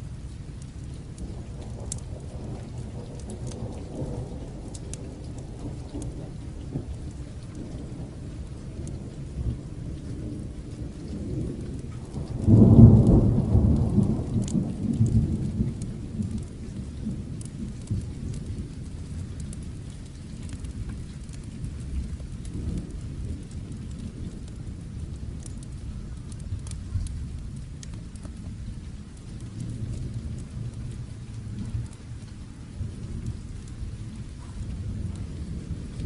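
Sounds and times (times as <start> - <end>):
light crackles: 0.0 - 36.0
steady rain: 0.0 - 36.0
thunder rumbling: 0.0 - 36.0.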